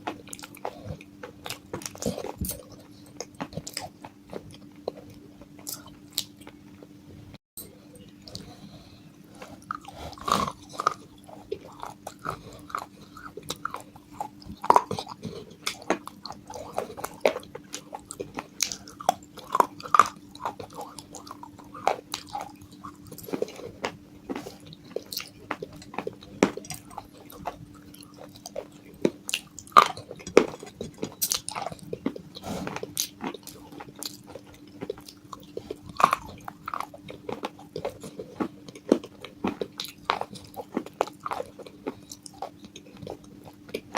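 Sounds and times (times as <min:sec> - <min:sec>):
chewing brittle clay pieces: 0:00.0 - 0:06.9, 0:07.6 - 0:43.9
faint hum: 0:00.0 - 0:43.9.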